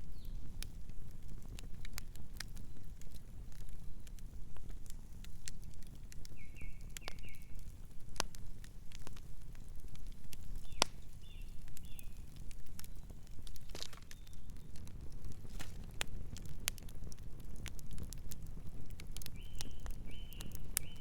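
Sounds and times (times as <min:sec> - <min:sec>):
campfire crackling: 0:00.0 - 0:21.0
low rumble of burning: 0:00.0 - 0:21.0.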